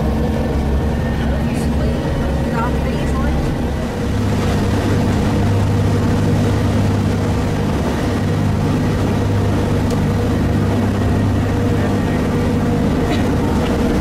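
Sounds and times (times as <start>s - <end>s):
railcar running low drone: 0.0s - 14.0s.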